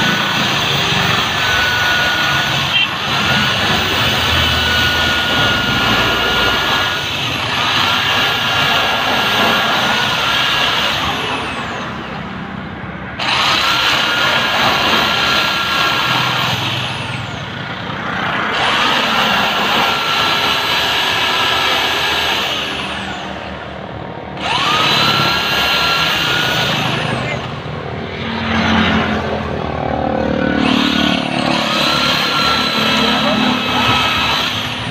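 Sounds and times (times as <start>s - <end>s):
electric drill grinding into metal: 0.0s - 12.2s, 13.2s - 17.6s, 18.2s - 23.6s, 24.4s - 29.3s, 30.5s - 34.9s
drill motor whine: 0.0s - 34.9s.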